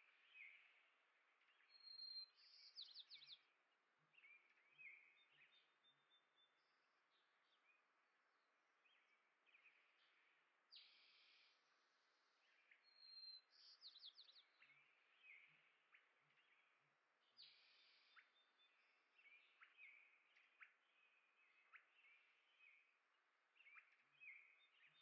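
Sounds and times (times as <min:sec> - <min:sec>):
faint outdoor hiss: 0:00.0 - 0:25.0
small songbirds chirping: 0:00.0 - 0:25.0.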